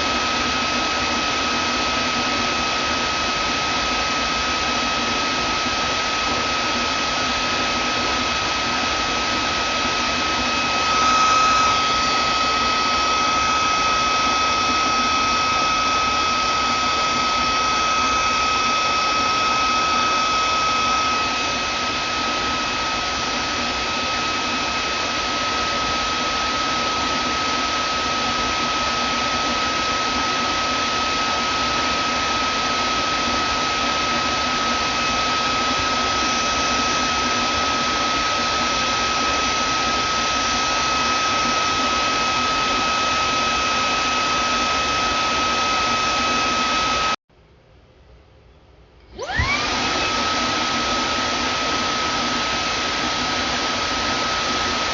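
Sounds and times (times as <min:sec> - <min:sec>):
vacuum cleaner motor whining: 0:00.0 - 0:47.2, 0:49.1 - 0:54.9.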